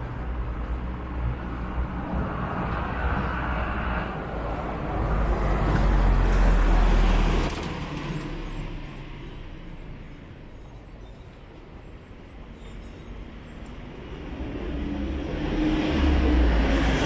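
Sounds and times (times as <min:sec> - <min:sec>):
vehicle passing with low rumble: 0:00.0 - 0:10.9, 0:13.7 - 0:17.0.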